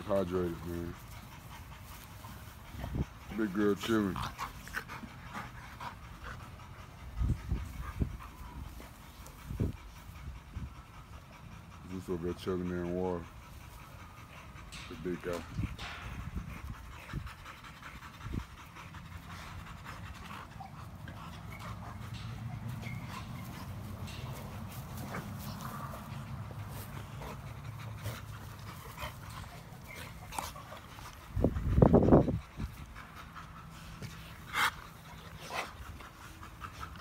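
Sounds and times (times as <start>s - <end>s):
dogs panting hard: 0.0s - 37.0s.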